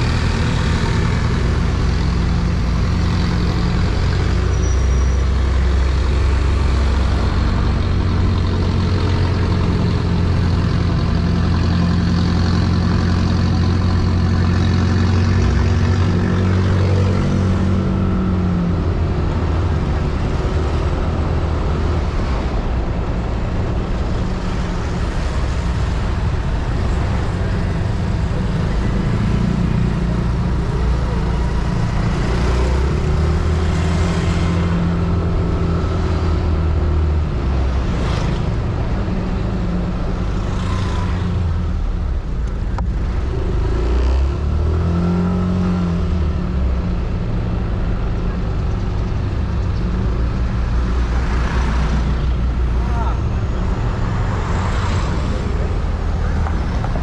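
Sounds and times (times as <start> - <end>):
road and wind noise: 0.0 - 57.0.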